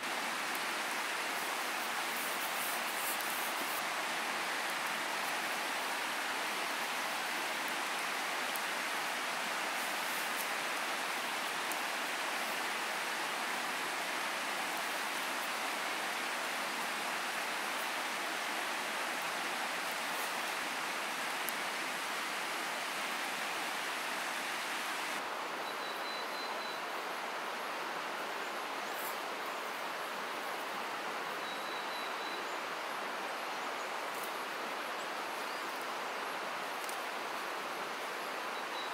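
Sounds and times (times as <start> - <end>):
forest ambience hiss: 0.0 - 38.9.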